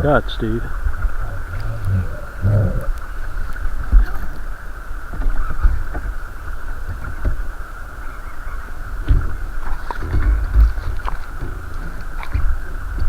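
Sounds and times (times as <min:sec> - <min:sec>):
creek water rushing: 0:00.0 - 0:13.0
wind rumble on microphone: 0:00.0 - 0:13.0.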